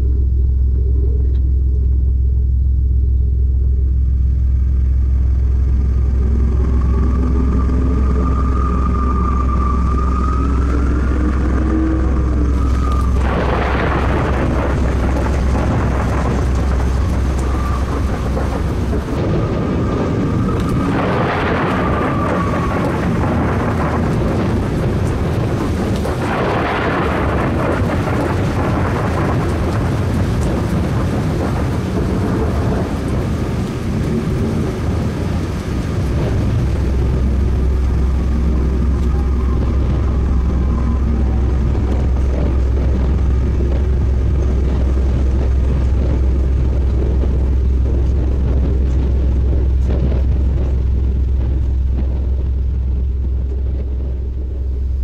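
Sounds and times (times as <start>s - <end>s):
faint wavering tones: 0.0s - 29.5s, 33.9s - 55.0s
deep steady rumble: 0.0s - 55.0s
rain-like hiss: 3.9s - 55.0s
thunder claps: 4.8s - 55.0s.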